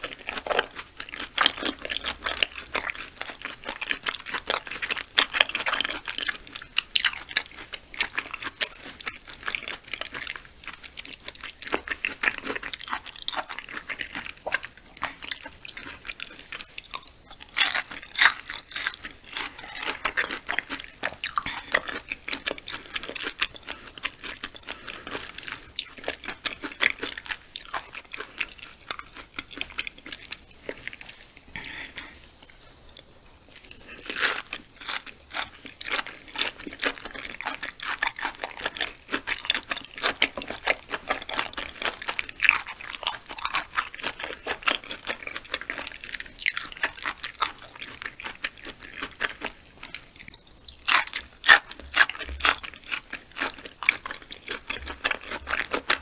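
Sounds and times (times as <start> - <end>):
close-miked chewing with clicks: 0.0 - 56.0.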